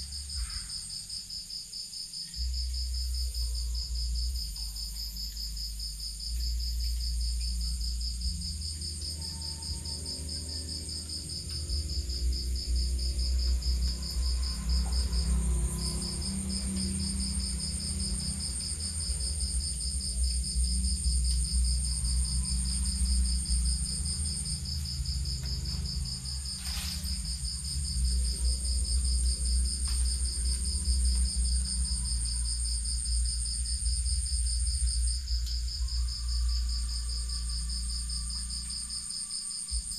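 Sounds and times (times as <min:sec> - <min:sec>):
cricket chirping: 0:00.0 - 0:39.9
crickets trilling: 0:00.0 - 0:39.9
low rumble: 0:02.3 - 0:39.9.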